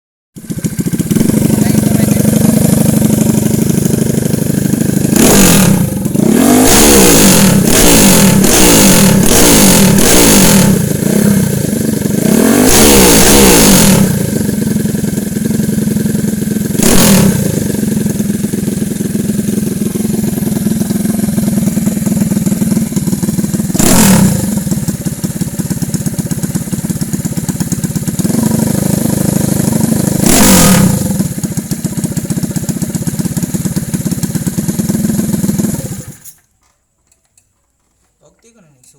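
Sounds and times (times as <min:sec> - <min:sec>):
motorbike engine idling: 0:00.4 - 0:08.5, 0:10.7 - 0:12.4, 0:13.6 - 0:36.5
motorbike engine revving: 0:00.4 - 0:36.4.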